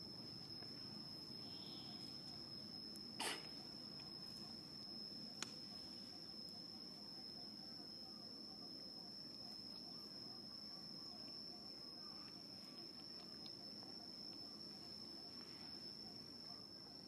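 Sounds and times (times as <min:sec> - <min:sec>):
high-pitched insect trill: 0:00.0 - 0:17.0
low outdoor background hiss: 0:00.0 - 0:17.0.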